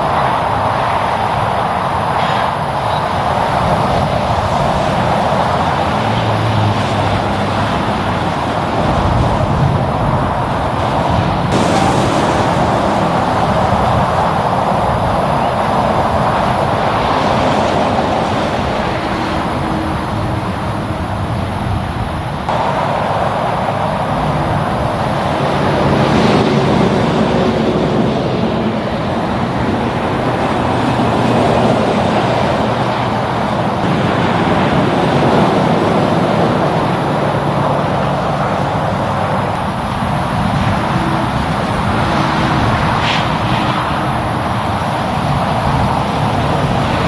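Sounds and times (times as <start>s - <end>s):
heavy trucks and cars passing: 0.0s - 47.0s.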